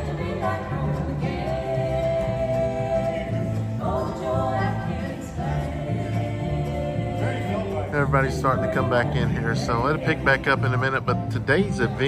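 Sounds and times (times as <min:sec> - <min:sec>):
acoustic string band: 0:00.0 - 0:12.0
women singing in harmony: 0:00.0 - 0:12.0.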